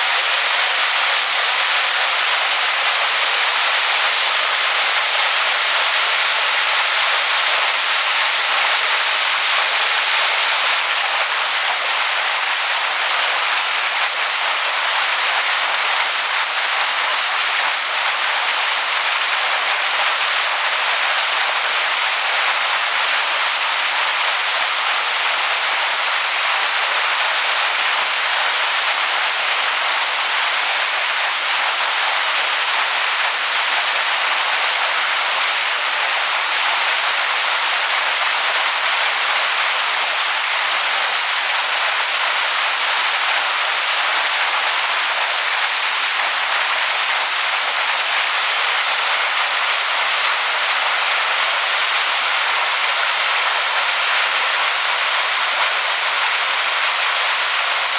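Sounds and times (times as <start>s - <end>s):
waterfall pouring onto stones: 0.0s - 57.9s.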